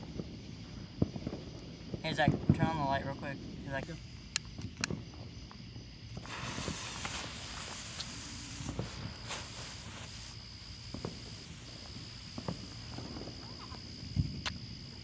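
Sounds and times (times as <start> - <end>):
firework hissing sparks: 0.0 - 15.0.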